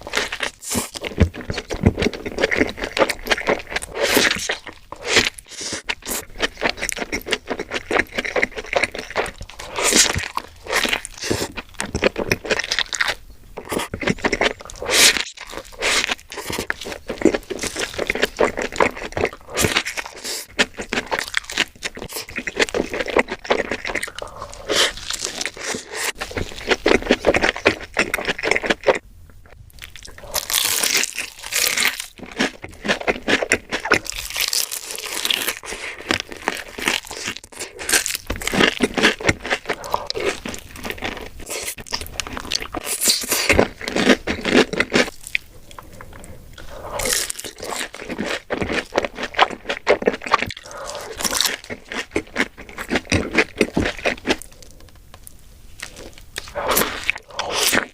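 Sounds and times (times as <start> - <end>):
crunchy bites and chewing: 0.0 - 57.9.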